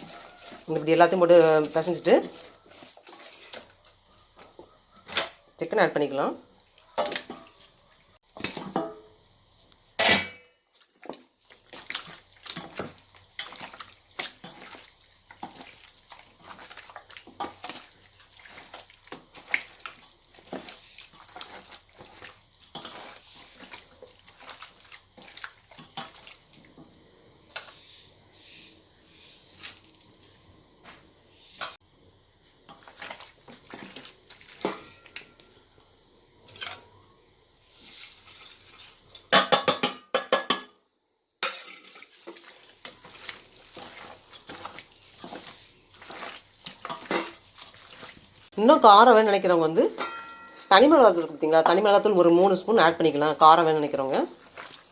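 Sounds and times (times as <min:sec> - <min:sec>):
wet squelches of hand mixing: 0:00.0 - 0:09.9, 0:10.6 - 0:36.6, 0:37.6 - 0:39.3, 0:41.8 - 0:54.9.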